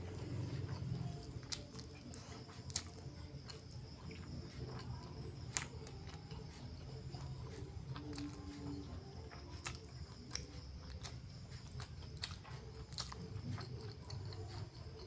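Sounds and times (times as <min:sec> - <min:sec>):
wet chewing mouth sounds: 0:00.0 - 0:15.0.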